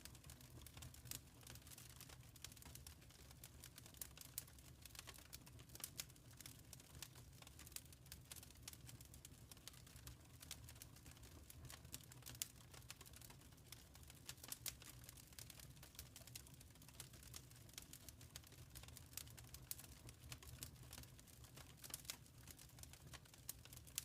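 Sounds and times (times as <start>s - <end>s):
wood fire crackling faintly: 0.0s - 24.0s.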